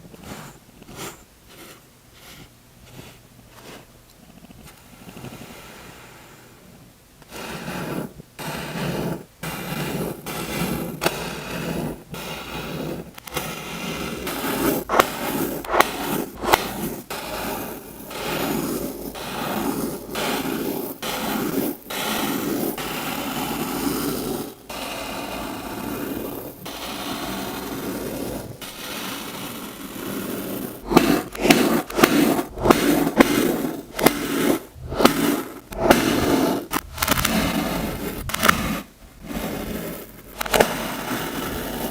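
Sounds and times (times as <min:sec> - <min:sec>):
sand being scraped and cut: 0:07.2 - 0:41.9.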